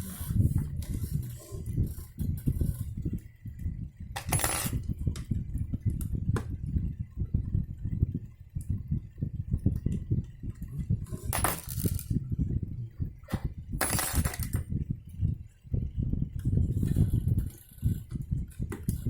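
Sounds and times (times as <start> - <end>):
low knocks and bumps: 0.3 - 19.0.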